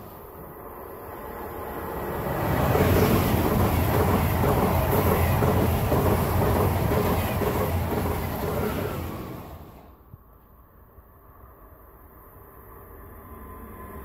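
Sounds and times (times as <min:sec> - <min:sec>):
high-speed train passing: 0:00.0 - 0:14.0.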